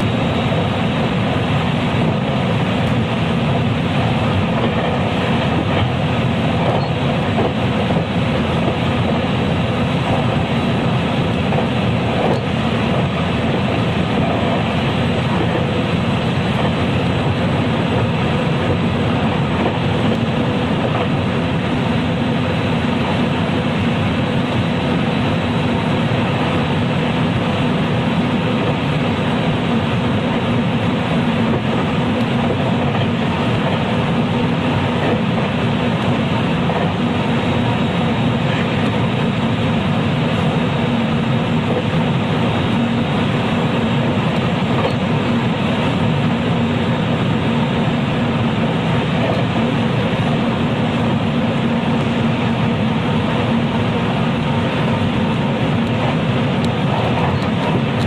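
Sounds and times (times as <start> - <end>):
electric train running noise: 0.0 - 58.0.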